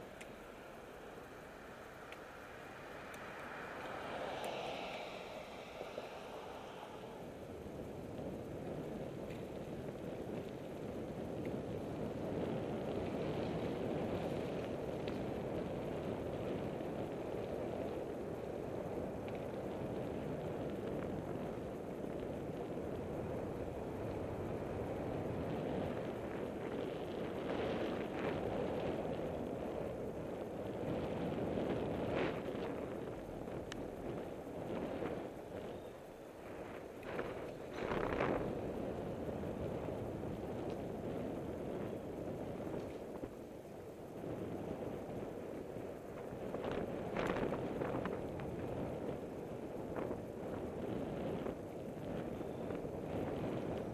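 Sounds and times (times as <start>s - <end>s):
bicycle tyres on asphalt: 0.0s - 53.9s
wind rumble on microphone: 0.0s - 53.9s.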